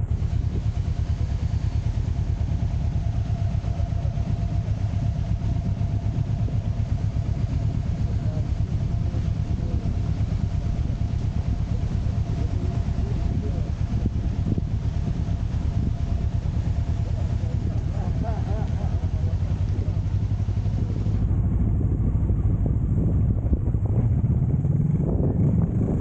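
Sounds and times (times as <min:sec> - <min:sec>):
faint steady whine: 0:00.0 - 0:26.0
motorcycle engine running: 0:00.0 - 0:26.0.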